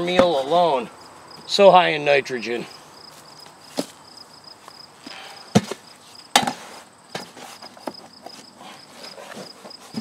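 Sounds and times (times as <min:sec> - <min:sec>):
faint insect chirping: 0:00.0 - 0:10.0.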